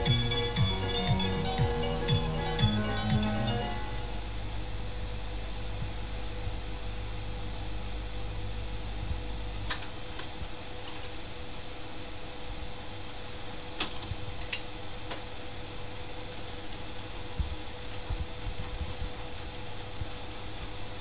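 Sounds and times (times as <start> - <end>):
jukebox low hum: 0.0 - 21.0.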